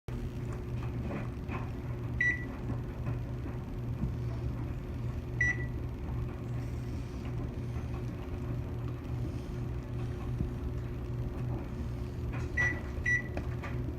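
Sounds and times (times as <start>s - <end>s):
microwave oven humming: 0.1s - 13.9s.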